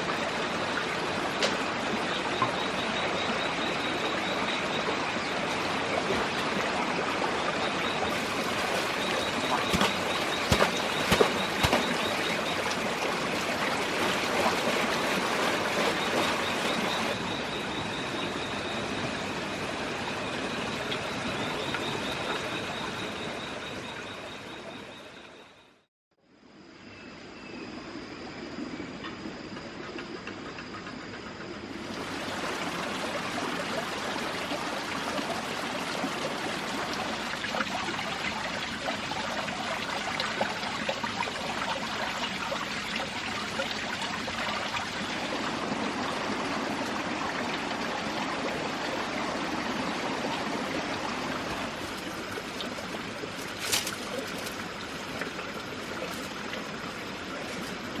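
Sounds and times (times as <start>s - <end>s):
flowing water rushing: 0.0s - 25.0s, 31.7s - 58.0s.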